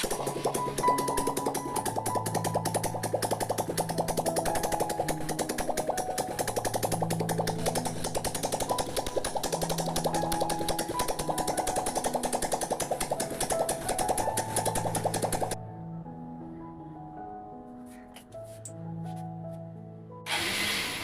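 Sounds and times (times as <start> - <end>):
background music with held notes: 0.0 - 21.0.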